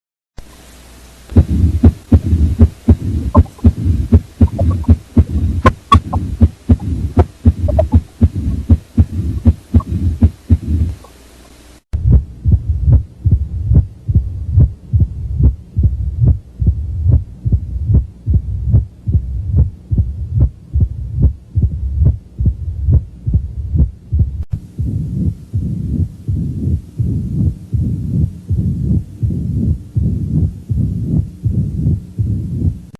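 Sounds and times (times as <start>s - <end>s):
heartbeat: 1.3s - 11.1s, 12.0s - 32.9s
low rumbling heart murmur: 1.3s - 11.1s, 12.0s - 32.9s.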